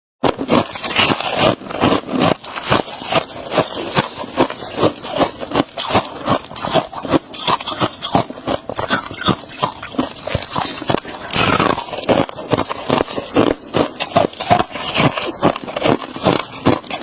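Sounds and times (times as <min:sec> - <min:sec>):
frost being chewed crunching: 0:00.2 - 0:17.0.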